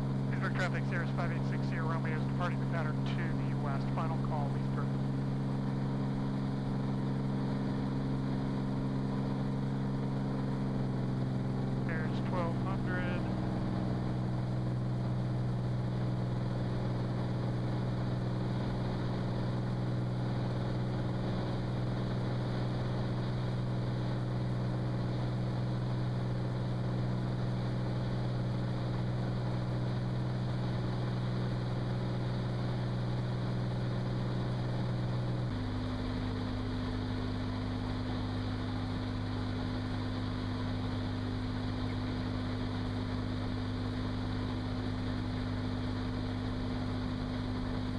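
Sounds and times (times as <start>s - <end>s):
aircraft engine droning in cabin: 0.0s - 47.9s.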